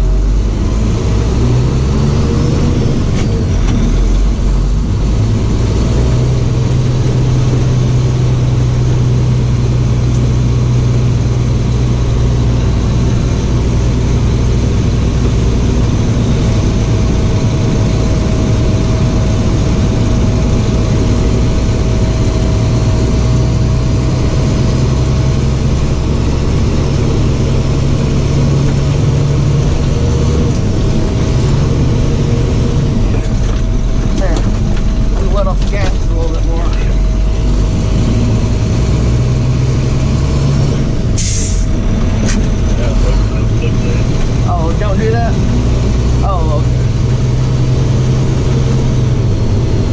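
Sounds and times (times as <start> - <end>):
road noise: 0.0 - 49.9
truck engine droning: 0.0 - 49.9.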